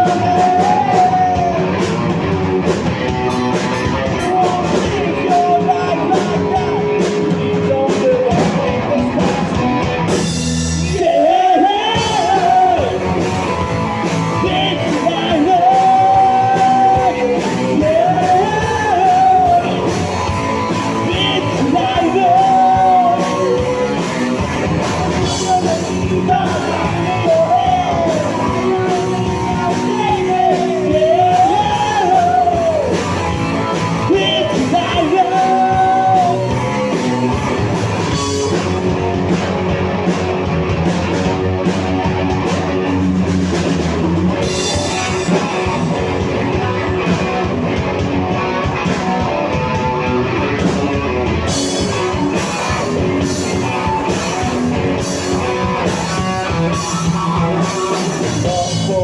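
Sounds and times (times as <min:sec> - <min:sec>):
bending lead guitar line: 0:00.0 - 0:59.0
live rock band playing: 0:00.0 - 0:59.0.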